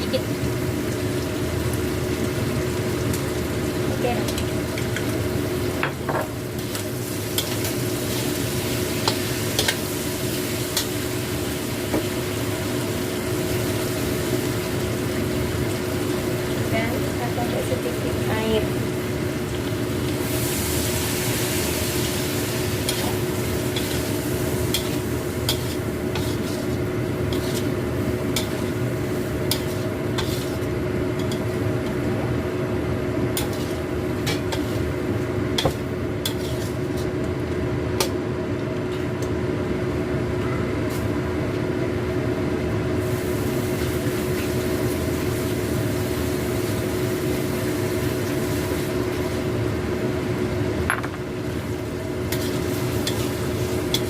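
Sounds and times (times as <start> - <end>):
food sizzling in a pan: 0.0 - 40.0, 42.9 - 54.0.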